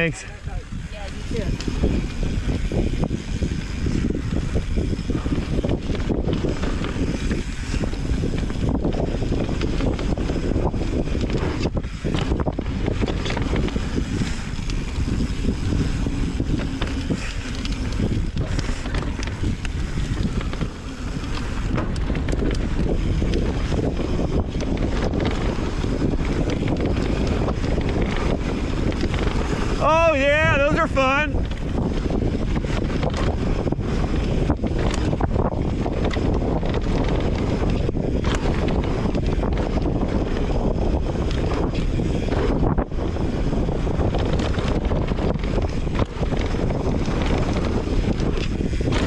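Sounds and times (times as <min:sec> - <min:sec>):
mountain bike rattling on dirt trail: 0:00.0 - 0:49.0
wind buffeting microphone: 0:00.0 - 0:49.0.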